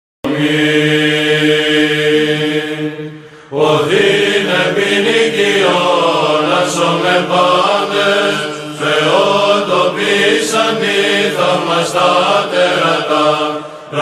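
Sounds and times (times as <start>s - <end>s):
chanting voices: 0.2s - 14.0s.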